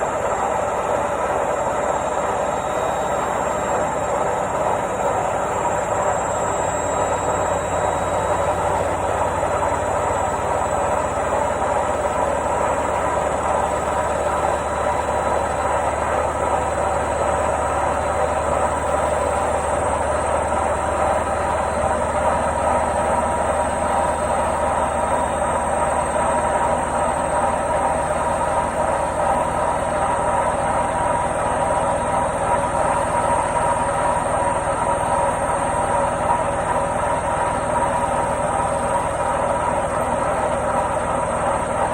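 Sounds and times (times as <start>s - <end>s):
washing machine spinning: 0.0s - 41.9s.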